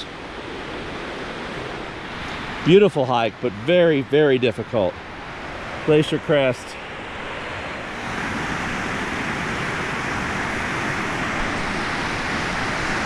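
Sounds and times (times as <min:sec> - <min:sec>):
mountain river rushing: 0:00.0 - 0:13.0.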